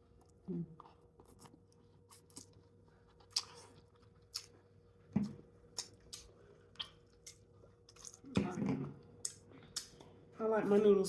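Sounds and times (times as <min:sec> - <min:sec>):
person chewing food: 0:00.0 - 0:08.4, 0:09.0 - 0:10.2.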